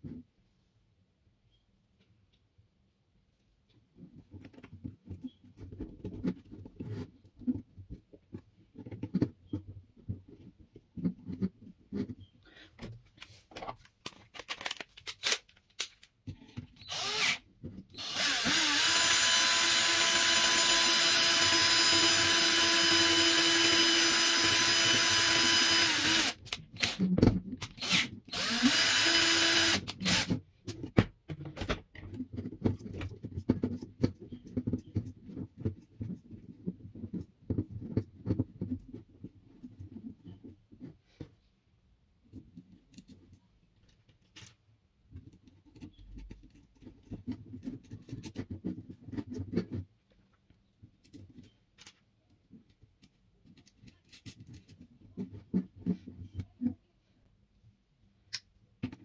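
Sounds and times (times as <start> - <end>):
small parts and tools handled: 3.6 - 41.5, 42.2 - 56.9.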